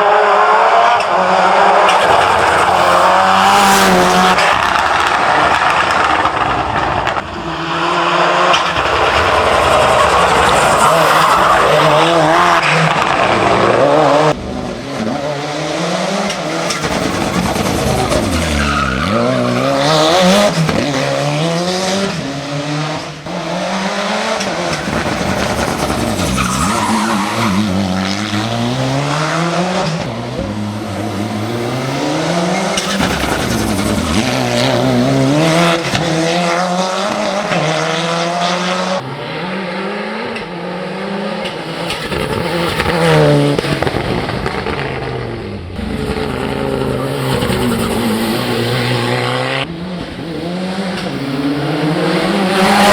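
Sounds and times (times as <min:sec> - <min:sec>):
car engine at full throttle: 0:00.0 - 0:52.9.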